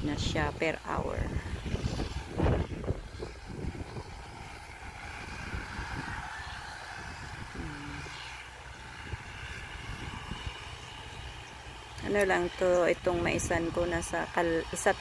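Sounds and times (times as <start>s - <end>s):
distant tractor engine running: 2.1s - 15.0s.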